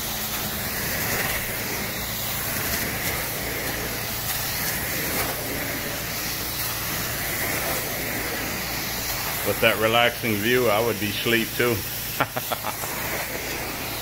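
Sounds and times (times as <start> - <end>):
spray and suction hiss: 0.0 - 14.0.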